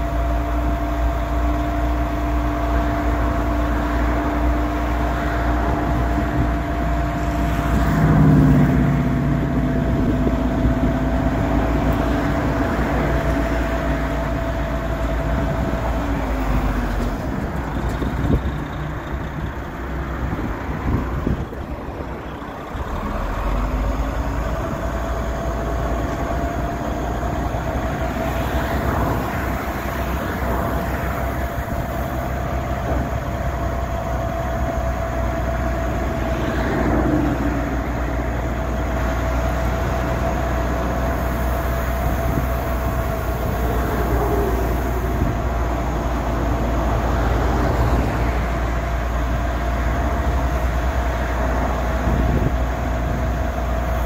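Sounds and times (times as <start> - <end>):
diesel truck engine running: 0.0 - 54.0
hydraulic hoist whine: 0.0 - 54.0.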